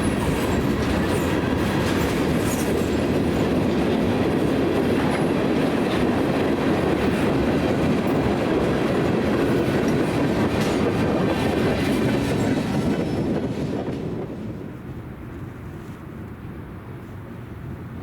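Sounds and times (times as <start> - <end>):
freight train clickety-clack: 0.0 - 18.0.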